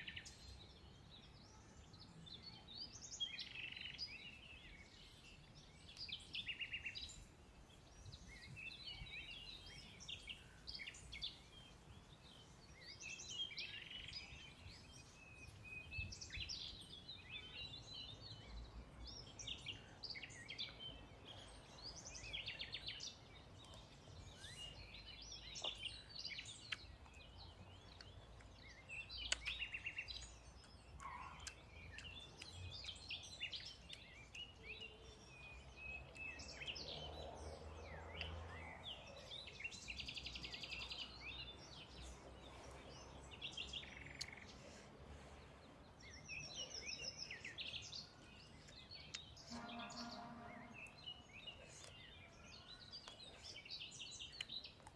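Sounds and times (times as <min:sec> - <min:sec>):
birds chirping and trilling: 0:00.0 - 0:54.9.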